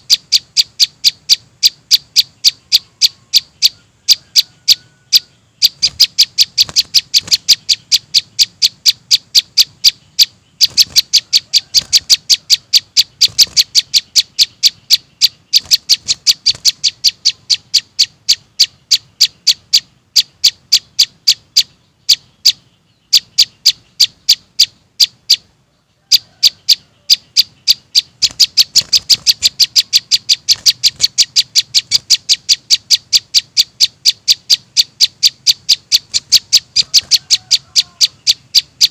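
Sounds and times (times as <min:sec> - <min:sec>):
high sharp bird chirps: 0:00.0 - 0:38.9.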